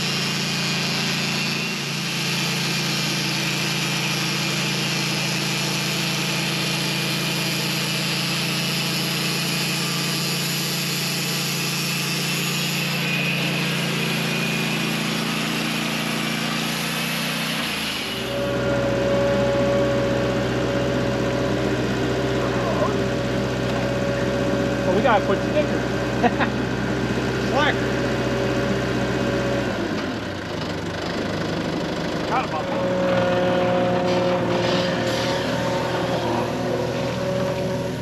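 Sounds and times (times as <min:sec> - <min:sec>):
sawmill engine running: 0:00.0 - 0:38.0.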